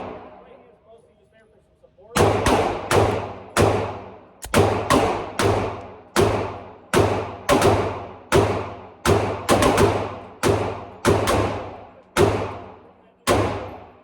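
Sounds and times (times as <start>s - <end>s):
pistol shots: 0.0s - 0.4s, 2.2s - 14.0s.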